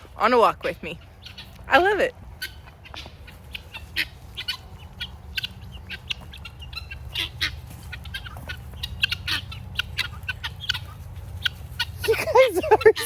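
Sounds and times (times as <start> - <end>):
guinea fowl calling: 0.5 - 13.0.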